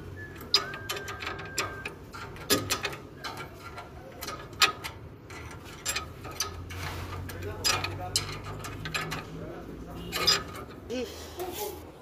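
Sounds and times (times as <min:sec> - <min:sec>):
spanner clinking on metal bolts: 0:00.0 - 0:10.9.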